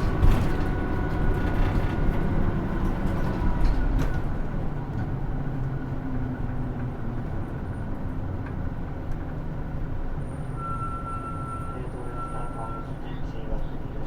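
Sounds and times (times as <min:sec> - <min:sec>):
bus diesel rumble: 0:00.0 - 0:14.0
road noise: 0:00.0 - 0:14.0.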